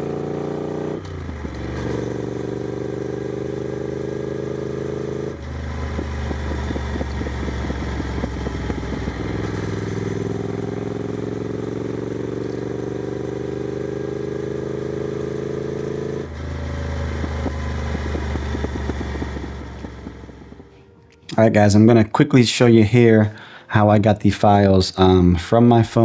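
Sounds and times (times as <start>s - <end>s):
motorcycle engine burbling and crackling: 0.0s - 21.9s.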